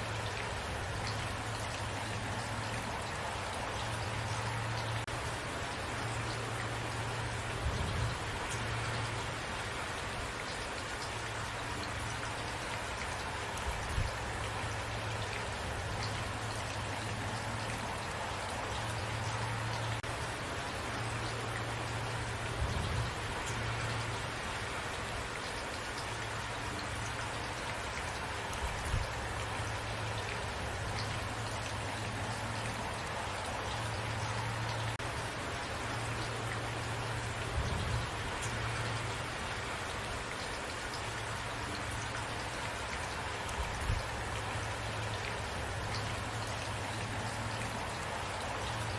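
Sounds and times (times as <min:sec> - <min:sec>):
rain pattering on a surface: 0:00.0 - 0:48.9.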